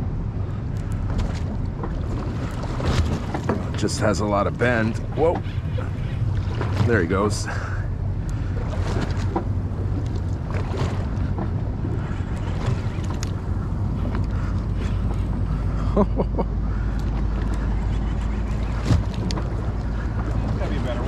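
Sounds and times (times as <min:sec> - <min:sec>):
steady low hum: 0:00.0 - 0:21.0
water against a boat hull: 0:00.4 - 0:21.0.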